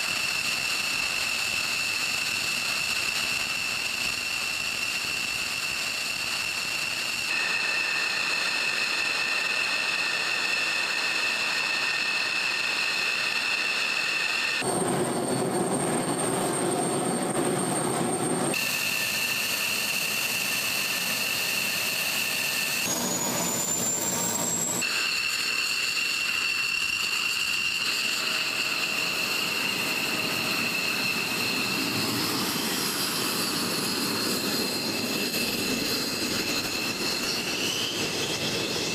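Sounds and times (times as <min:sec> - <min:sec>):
jet engine whine: 0:00.0 - 0:38.9.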